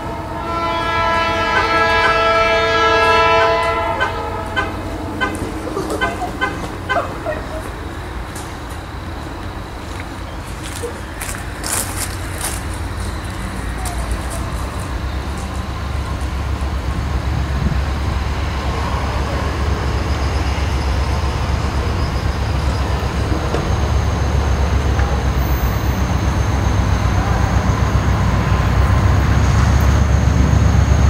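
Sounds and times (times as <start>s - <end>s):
train approaching with low rumble: 0.0s - 31.0s.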